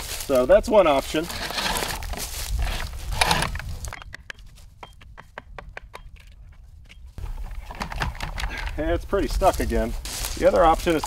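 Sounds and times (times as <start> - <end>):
rustling and scraping handling: 0.0 - 11.0.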